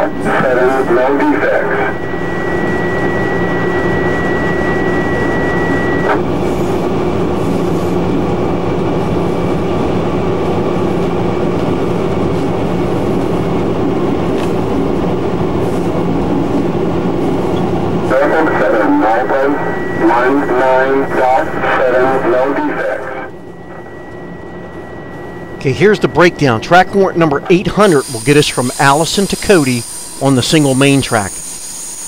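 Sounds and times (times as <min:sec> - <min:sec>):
rail and wheel noise: 0:00.0 - 0:28.8
diesel locomotive engine drone: 0:00.0 - 0:32.0
thin high whine: 0:00.0 - 0:32.0.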